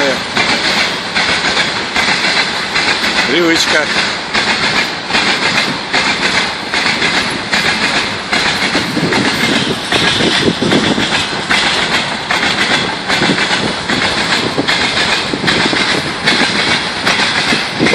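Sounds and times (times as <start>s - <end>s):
train rolling noise: 0.0s - 17.9s
train wheels clickety-clack: 0.0s - 17.9s.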